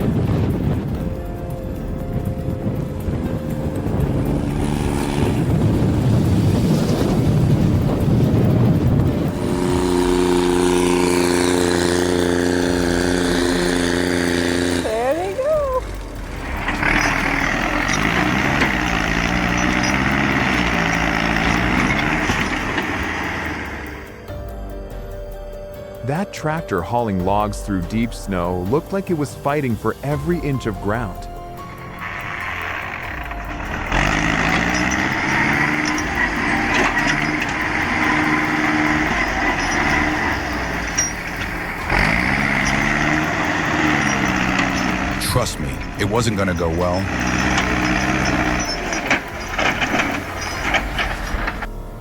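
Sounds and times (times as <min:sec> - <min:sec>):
tractor engine under load: 0:00.0 - 0:25.1, 0:26.0 - 0:52.0.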